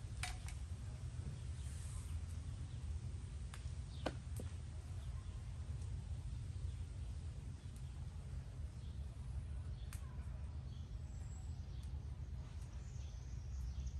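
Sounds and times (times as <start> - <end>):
low outdoor rumble: 0.0 - 13.9.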